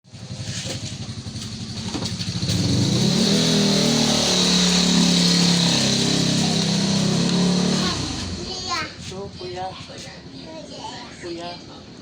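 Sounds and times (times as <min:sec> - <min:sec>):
engine running: 0:00.1 - 0:09.8.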